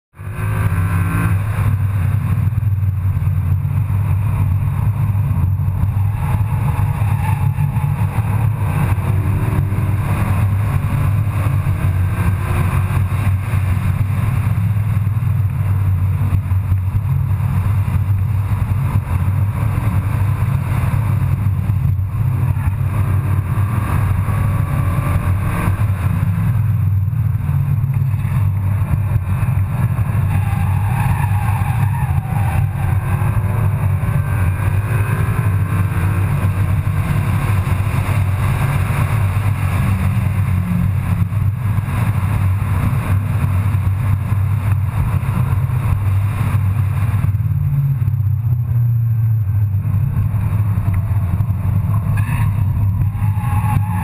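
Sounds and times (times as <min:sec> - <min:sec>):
car engine and road noise: 0:00.1 - 0:54.0.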